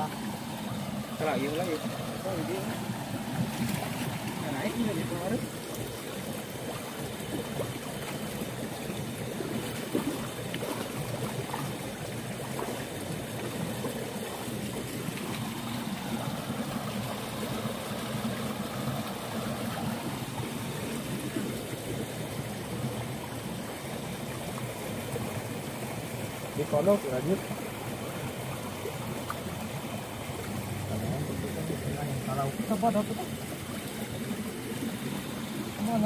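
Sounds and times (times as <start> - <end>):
stream water trickling: 0.0 - 36.0.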